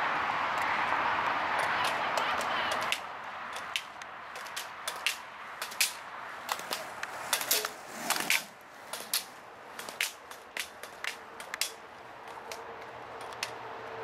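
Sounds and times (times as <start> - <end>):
skate wheels rolling: 0.0 - 14.0
pole tips striking asphalt: 1.6 - 13.6.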